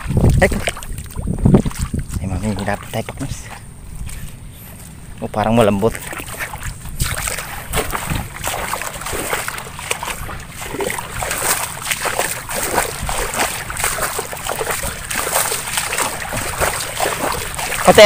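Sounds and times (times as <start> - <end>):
mud and water splashing: 0.0 - 18.0.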